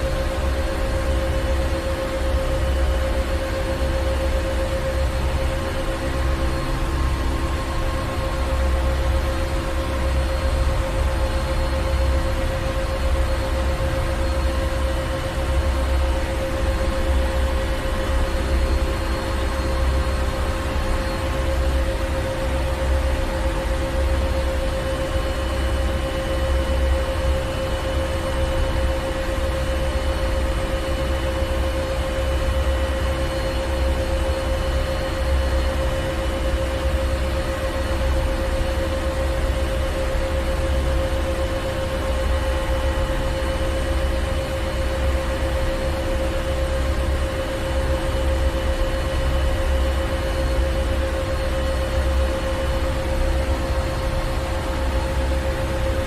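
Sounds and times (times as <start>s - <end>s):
ship engine room machinery: 0.0s - 56.0s.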